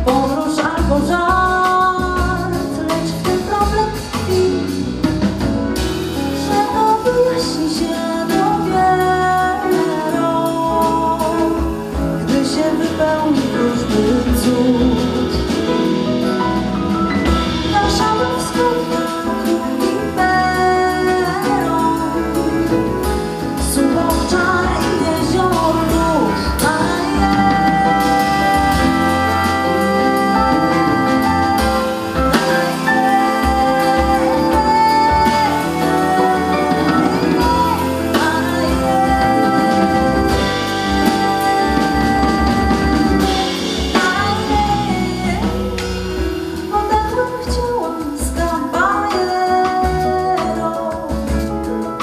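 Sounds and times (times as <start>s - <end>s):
woman singing: 0.0s - 16.4s, 17.2s - 52.0s
jazz-pop band playing: 0.0s - 52.0s.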